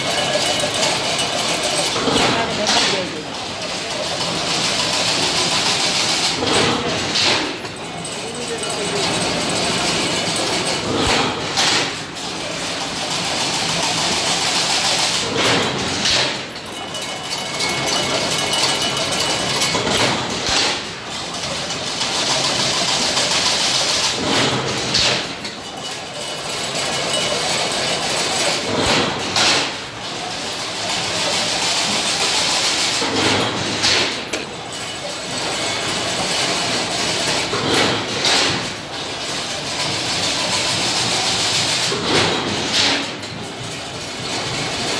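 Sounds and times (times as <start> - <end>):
fence weaving machine running: 0.0 - 44.9.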